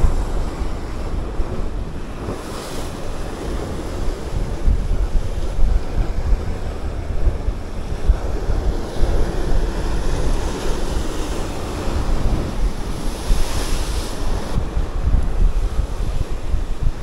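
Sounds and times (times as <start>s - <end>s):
sea waves: 0.0s - 17.0s
wind buffeting microphone: 0.0s - 17.0s.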